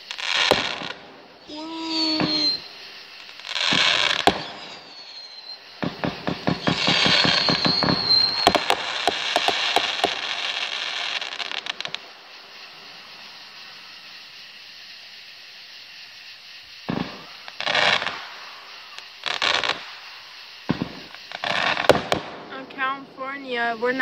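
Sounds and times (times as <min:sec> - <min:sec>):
fireworks bangs: 0:00.0 - 0:14.0, 0:16.8 - 0:24.0
fireworks crackling: 0:00.0 - 0:24.0.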